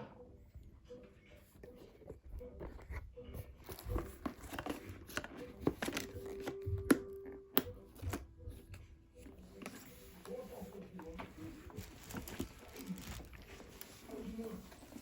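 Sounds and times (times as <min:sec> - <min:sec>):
packaging rustling and crinkling: 0:02.0 - 0:07.2, 0:07.8 - 0:15.0.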